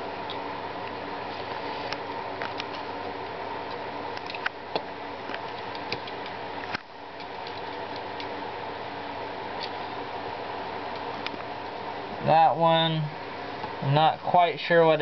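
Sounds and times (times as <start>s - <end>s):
fan-like hum: 0.0s - 15.0s.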